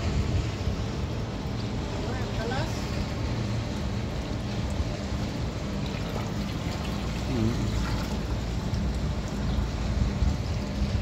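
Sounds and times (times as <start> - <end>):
water pouring from hose into tank: 0.0 - 11.0.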